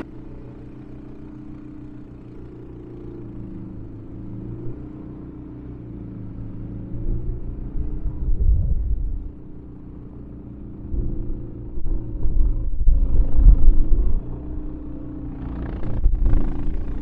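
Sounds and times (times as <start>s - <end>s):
snowblower engine rumbling: 0.0s - 17.0s.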